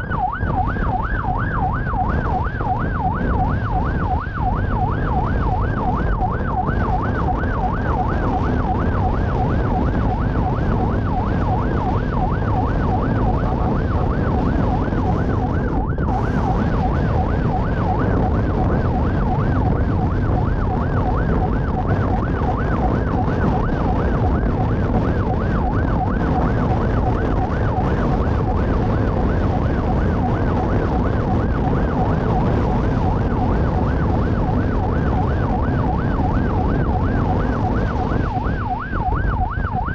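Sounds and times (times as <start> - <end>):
electronic siren yelping: 0.0 - 39.9
low rumble: 0.0 - 39.9.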